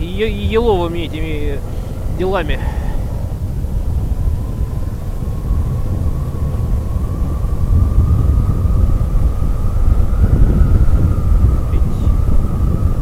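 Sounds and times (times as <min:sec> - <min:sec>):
thin steady whine: 0:00.0 - 0:13.0
wind rumble on microphone: 0:00.0 - 0:13.0.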